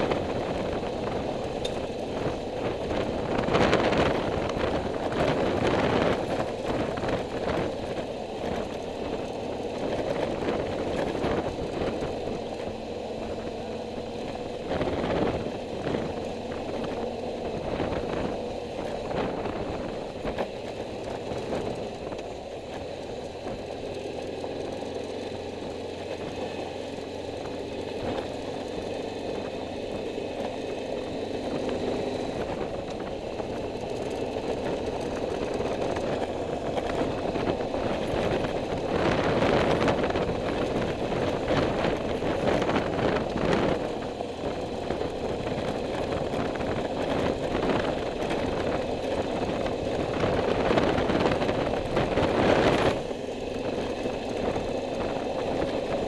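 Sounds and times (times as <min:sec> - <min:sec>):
road and wind rumble: 0:00.0 - 0:56.0
vehicle engine hum: 0:00.0 - 0:56.0.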